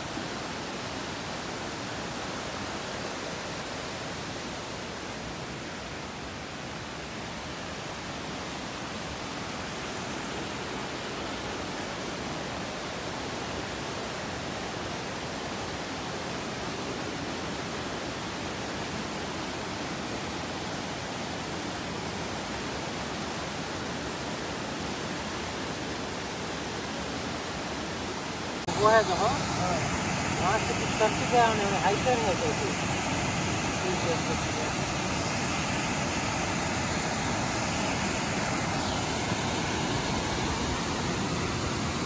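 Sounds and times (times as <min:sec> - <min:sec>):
rushing rapids and waterfall: 0:00.0 - 0:42.0.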